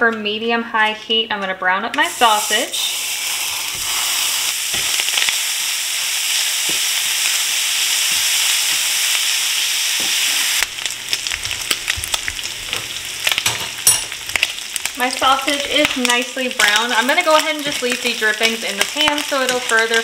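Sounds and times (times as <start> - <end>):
sausage sizzling in a skillet: 2.0 - 20.0.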